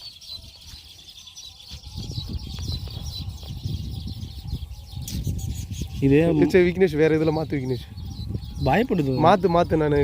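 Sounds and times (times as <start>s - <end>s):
young sparrows chirping: 0.0s - 10.0s.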